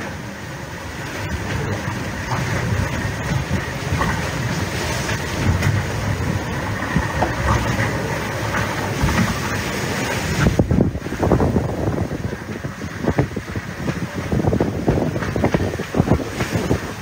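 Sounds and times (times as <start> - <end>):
hull rushing through waves: 0.0 - 17.0
wind buffeting microphone: 0.0 - 17.0.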